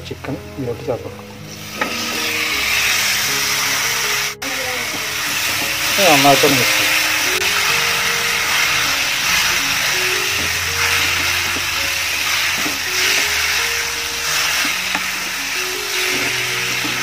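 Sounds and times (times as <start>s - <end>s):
background music with held notes: 0.0s - 17.0s
chicken sizzling in hot oil: 1.5s - 17.0s.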